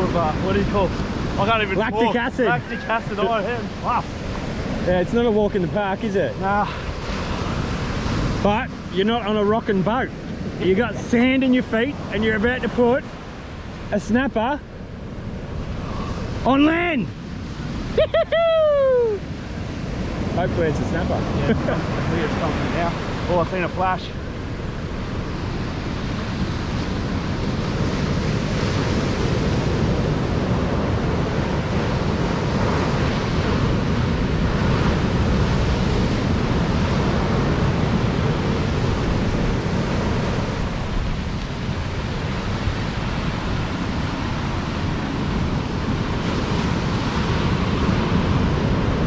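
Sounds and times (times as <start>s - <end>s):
ocean surf breaking on beach: 0.0s - 49.0s.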